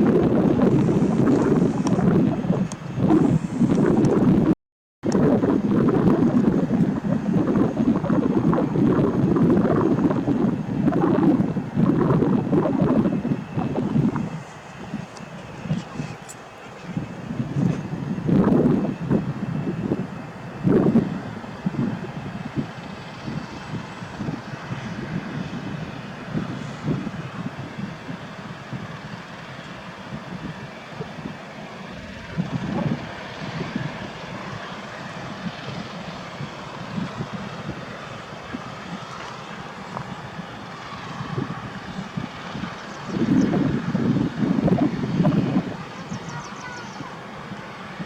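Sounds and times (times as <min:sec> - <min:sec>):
distant aircraft engine: 0:00.0 - 0:48.0
wind buffeting microphone: 0:00.0 - 0:48.0.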